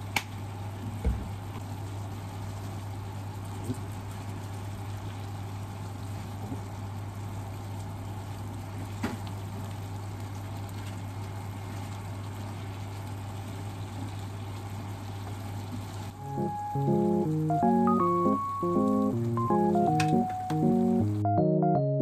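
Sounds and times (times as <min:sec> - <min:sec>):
food sizzling in a frying pan: 0:01.6 - 0:19.4.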